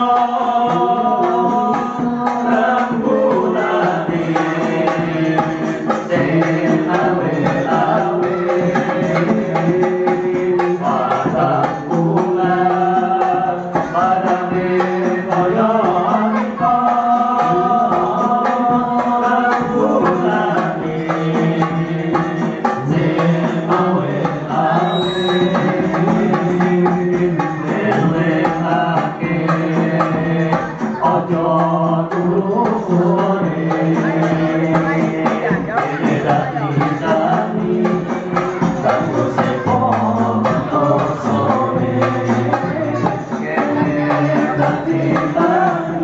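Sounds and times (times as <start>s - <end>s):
frame drums beating: 0.0s - 46.0s
men singing together through speakers: 0.0s - 46.0s.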